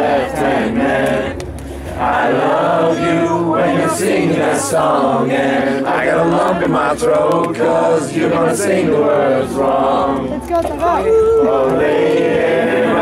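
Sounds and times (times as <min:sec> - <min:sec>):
group singing together: 0:00.0 - 0:13.0.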